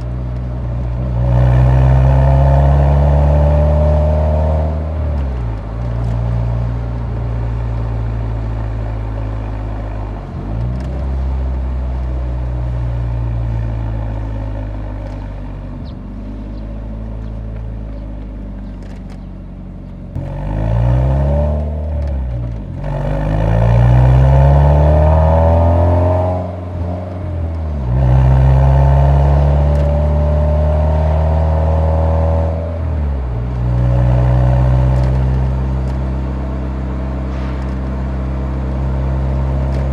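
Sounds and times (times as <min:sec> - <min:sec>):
car exhaust while driving: 0:00.0 - 0:39.9.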